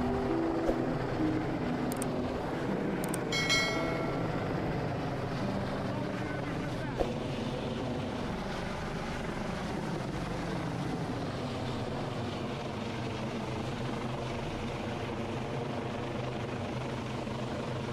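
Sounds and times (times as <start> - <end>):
helicopter rotor drone: 0.0 - 17.9.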